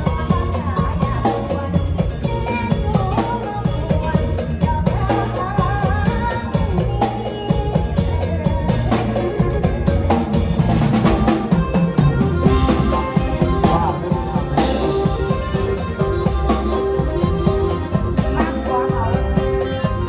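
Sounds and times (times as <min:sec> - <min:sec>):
drum kit beating: 0:00.0 - 0:20.0
keyboard melody: 0:00.0 - 0:20.0.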